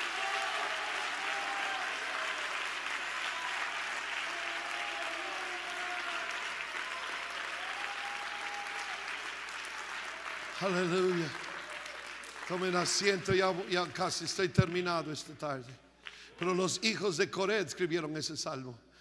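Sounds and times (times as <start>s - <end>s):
congregation applauding: 0.0s - 17.2s.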